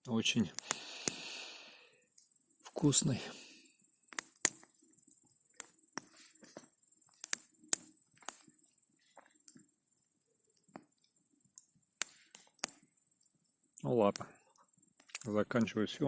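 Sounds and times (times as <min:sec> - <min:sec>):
campfire wood crackling: 0:00.0 - 0:16.0.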